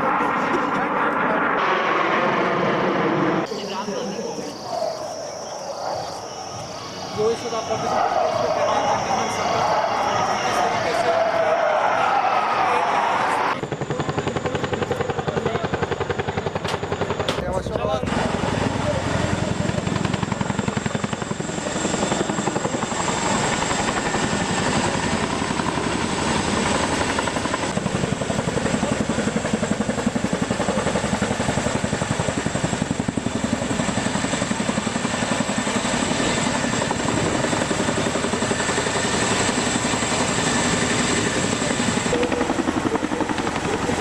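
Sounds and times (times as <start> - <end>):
helicopter rotor blades chopping: 0.0 - 44.0.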